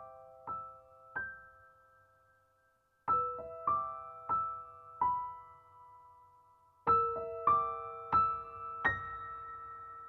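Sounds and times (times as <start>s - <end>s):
soft solo piano: 0.0s - 10.0s.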